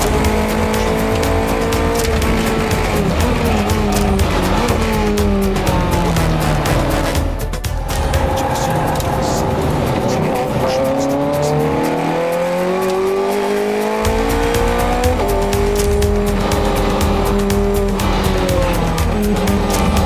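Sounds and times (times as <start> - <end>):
car engine revving in cabin: 0.0 - 7.3, 8.0 - 20.0
music: 0.0 - 20.0.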